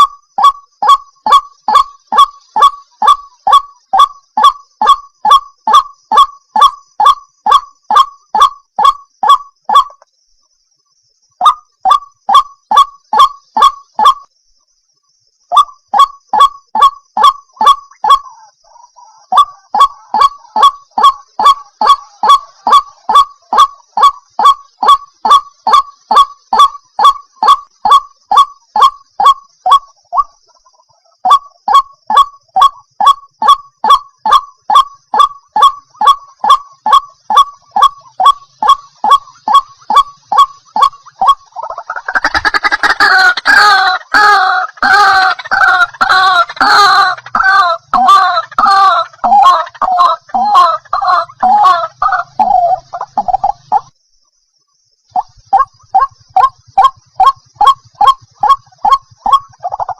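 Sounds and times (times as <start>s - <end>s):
harsh croaking calls: 0.0s - 10.0s, 11.2s - 14.4s, 15.4s - 54.1s, 54.8s - 59.9s
waterhen calling: 0.0s - 10.0s, 11.4s - 14.3s, 15.5s - 53.9s, 55.1s - 59.9s.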